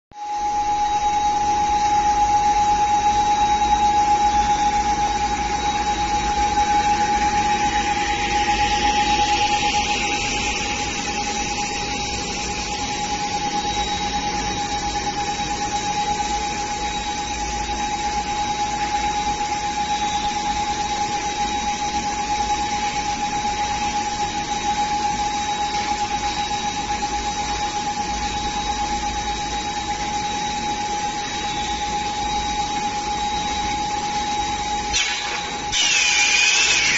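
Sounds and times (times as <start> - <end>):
constant whining tone: 0.4 - 36.9
bottle blowing machine running: 3.2 - 36.9.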